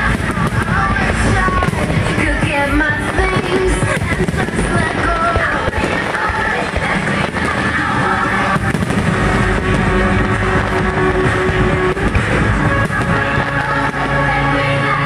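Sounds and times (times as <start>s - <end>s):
loud music playing: 0.0s - 15.0s.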